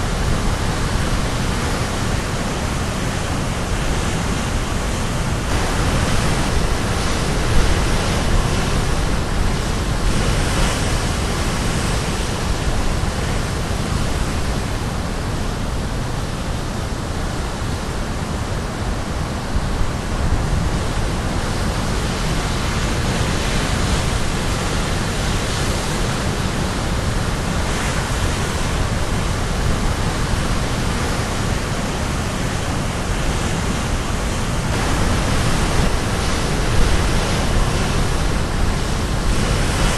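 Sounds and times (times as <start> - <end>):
surf waves crashing: 0.0 - 39.9.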